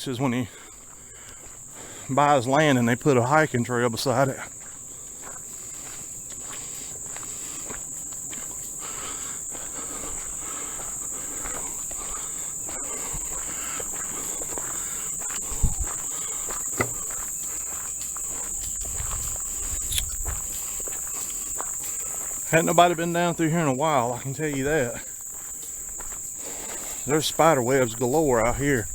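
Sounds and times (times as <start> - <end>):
footsteps on dirt trail: 0.0 - 28.9
high-pitched insect chorus: 0.0 - 28.9.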